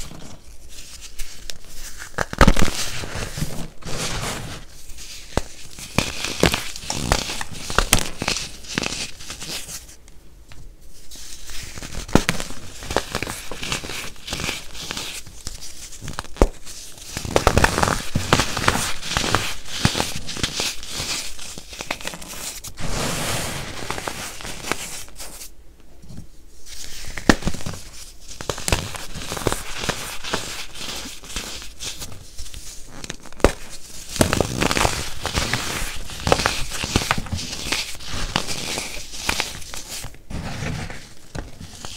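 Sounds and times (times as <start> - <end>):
hands crushing baking soda chunks: 0.0 - 9.8, 11.1 - 25.5, 26.8 - 41.9.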